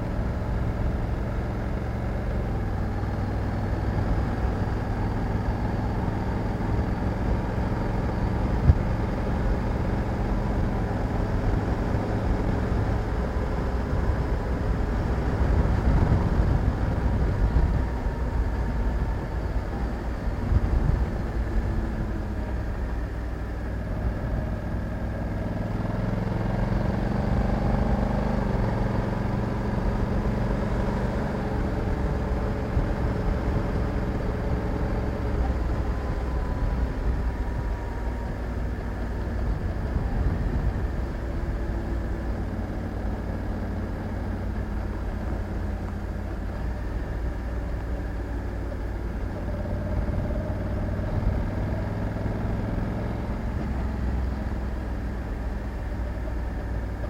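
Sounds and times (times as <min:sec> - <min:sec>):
motorcycle engine running: 0:00.0 - 0:57.0
wind rumble on microphone: 0:02.4 - 0:25.6, 0:26.3 - 0:45.4, 0:46.0 - 0:57.0.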